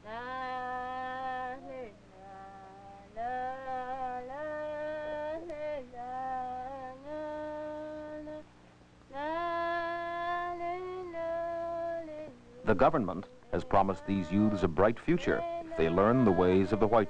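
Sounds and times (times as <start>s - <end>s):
person singing wordless melody: 0.0s - 8.5s, 9.1s - 17.0s
faint low hum: 0.0s - 17.0s.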